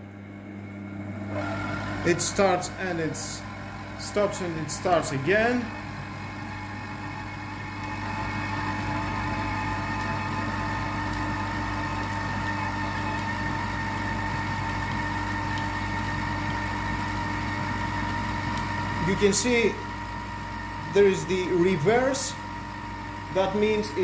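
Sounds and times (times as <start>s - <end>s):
kitchen machine motor humming: 0.0s - 24.0s.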